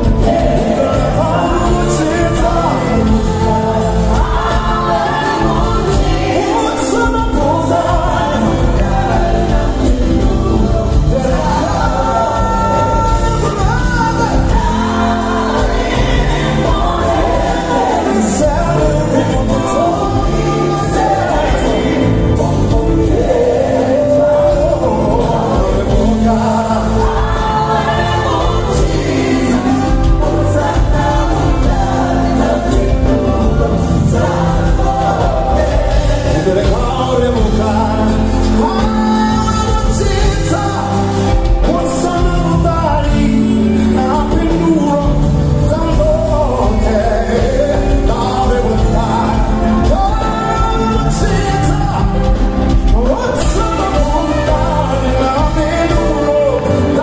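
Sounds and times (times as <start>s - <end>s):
band with drums guitar and keyboards: 0.0s - 57.0s
choir singing gospel: 0.0s - 57.0s.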